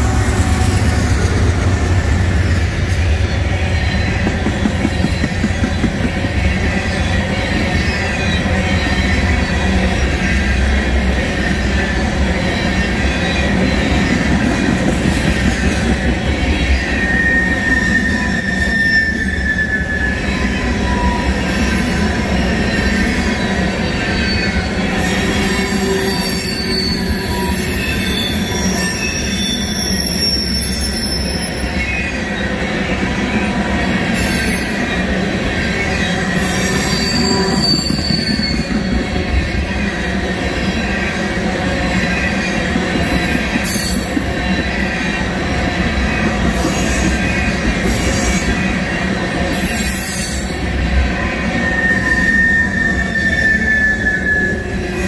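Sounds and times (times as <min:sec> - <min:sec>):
train wheels rumbling on rails: 0:00.0 - 0:55.0
wheel squeals: 0:00.6 - 0:10.8, 0:11.4 - 0:32.2, 0:35.6 - 0:41.2, 0:41.8 - 0:48.9, 0:49.5 - 0:55.0.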